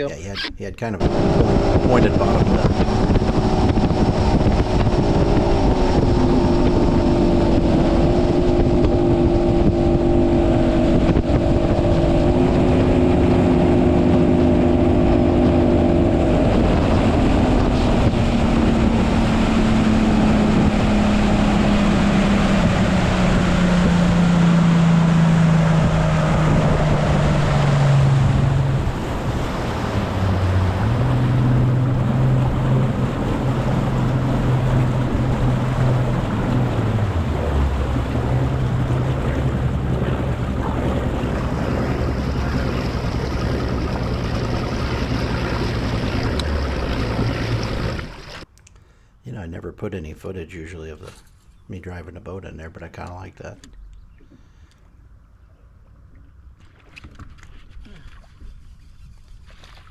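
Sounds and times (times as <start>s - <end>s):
water rushing past hull: 0.0s - 48.5s, 56.0s - 59.9s
wind buffeting microphone: 0.0s - 48.5s
motorboat engine running: 0.0s - 48.6s.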